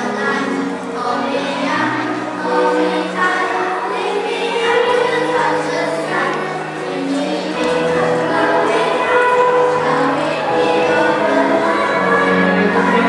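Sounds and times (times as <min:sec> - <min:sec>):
choir singing slow song: 0:00.0 - 0:13.0.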